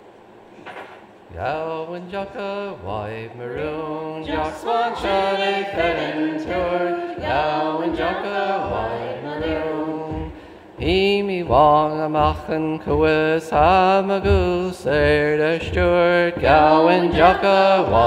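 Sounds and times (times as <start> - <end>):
group singing unaccompanied: 1.3 - 18.0.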